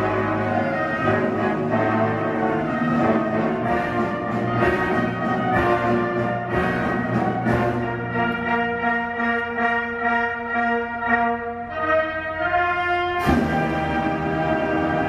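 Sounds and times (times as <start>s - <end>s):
orchestral brass sustained chords: 0.0s - 15.0s.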